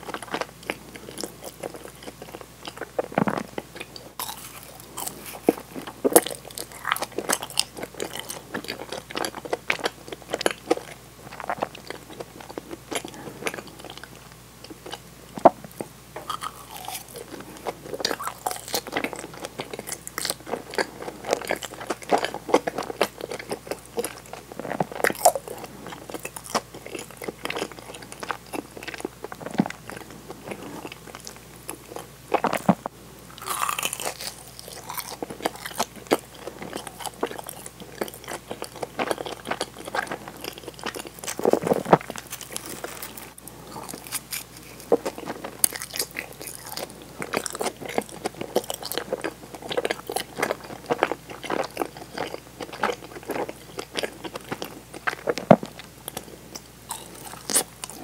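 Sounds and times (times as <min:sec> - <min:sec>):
chewing crunchy mochi: 0:00.0 - 0:58.0.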